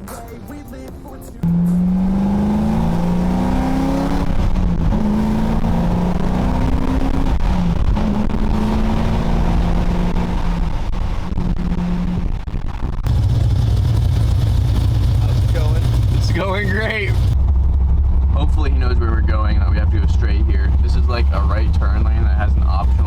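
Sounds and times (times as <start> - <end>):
car engine accelerating: 1.4 - 23.0.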